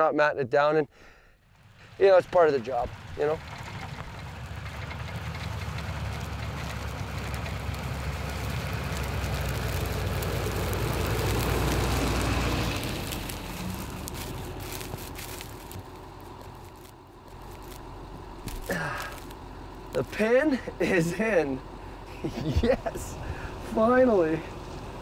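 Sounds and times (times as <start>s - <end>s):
truck engine rumble: 0.7s - 25.0s.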